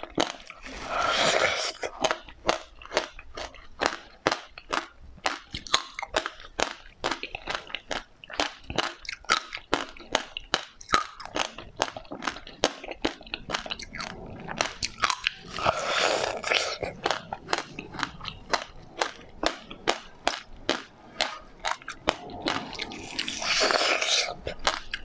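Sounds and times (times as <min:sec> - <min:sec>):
mouth chewing wet clicks: 0:00.0 - 0:25.0.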